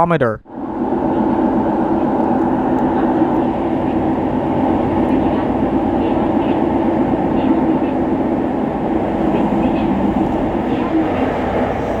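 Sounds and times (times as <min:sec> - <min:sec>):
train rumbling in tunnel: 0:00.4 - 0:12.0.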